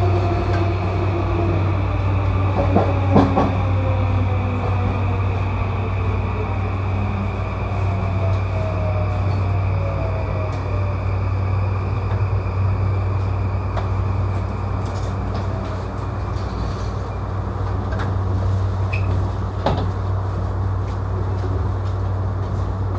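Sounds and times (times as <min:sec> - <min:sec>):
train cabin rumble: 0:00.0 - 0:22.9.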